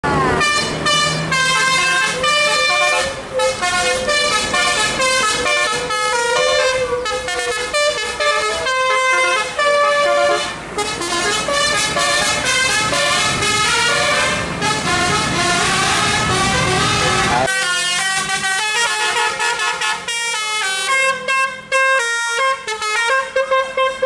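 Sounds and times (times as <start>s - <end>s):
bus air horn melody: 0.2s - 24.0s.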